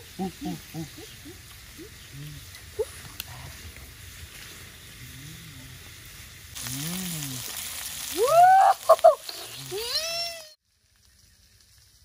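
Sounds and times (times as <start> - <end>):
birds sizzling in frying oil: 0.0 - 12.0.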